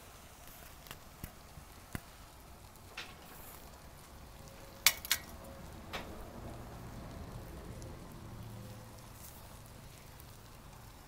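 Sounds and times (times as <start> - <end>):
alcohol stove hissing: 0.0 - 11.0.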